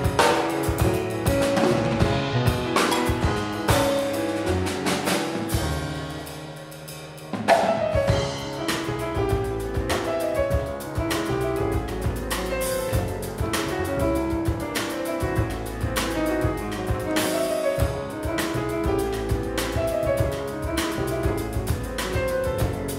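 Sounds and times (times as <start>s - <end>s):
piano bass and drums trio: 0.0s - 22.9s.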